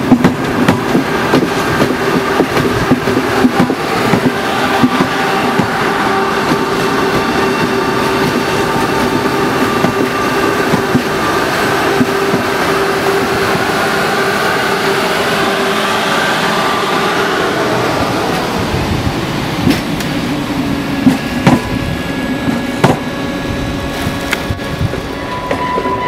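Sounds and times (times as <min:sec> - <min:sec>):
train passing close by: 0:00.0 - 0:26.0.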